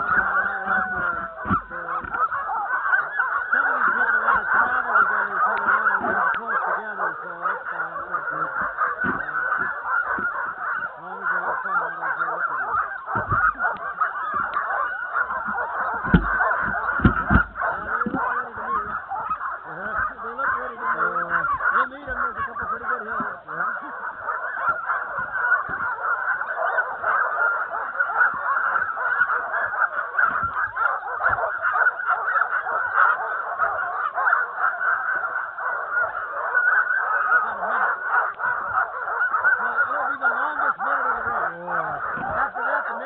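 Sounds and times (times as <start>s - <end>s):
sled dogs barking and yelping: 0.0s - 43.0s.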